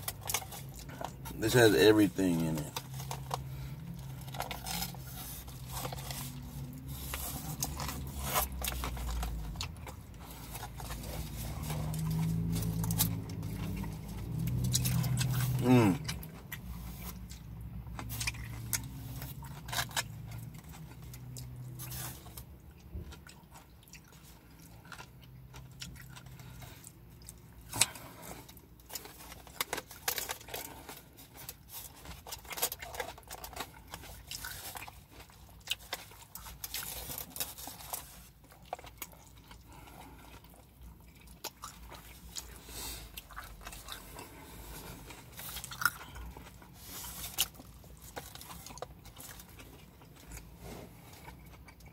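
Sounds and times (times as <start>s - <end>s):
chewing and biting food: 0.0s - 51.9s.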